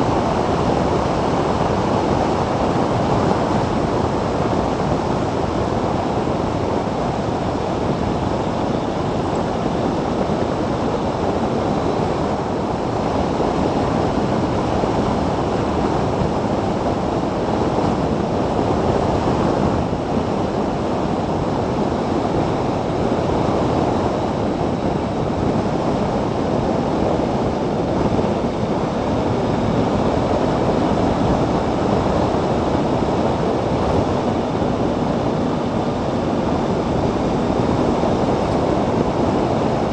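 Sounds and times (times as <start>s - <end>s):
wind buffeting microphone: 0.0s - 39.9s
wind rush: 0.0s - 39.9s.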